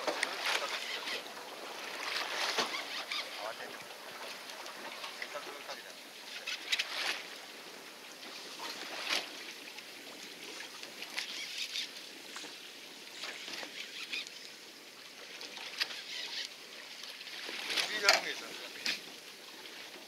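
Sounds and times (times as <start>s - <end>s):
water sloshing against boat: 0.0s - 20.0s.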